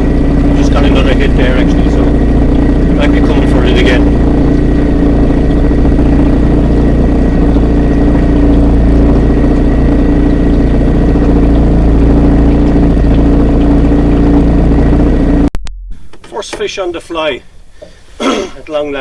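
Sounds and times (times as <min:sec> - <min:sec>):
outboard motor running: 0:00.0 - 0:15.5.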